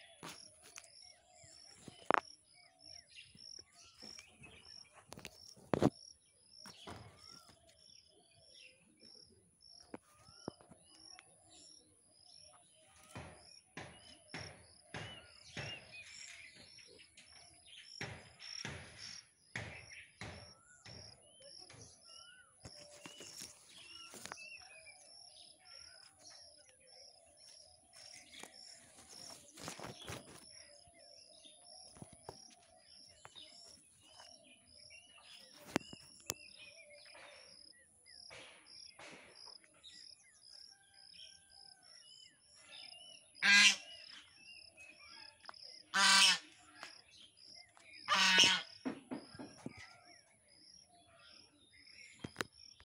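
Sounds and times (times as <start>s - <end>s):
faint birds chirping: 0.0s - 52.9s.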